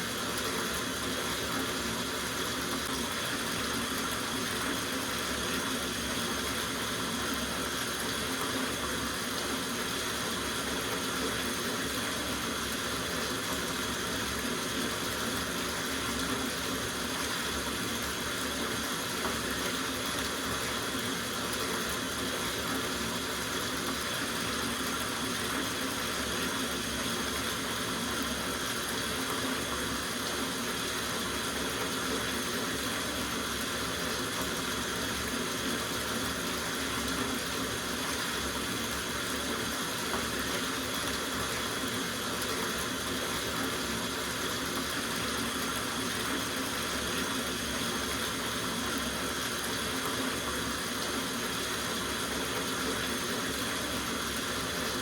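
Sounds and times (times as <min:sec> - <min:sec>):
tap water running into bathtub: 0:00.0 - 0:55.0.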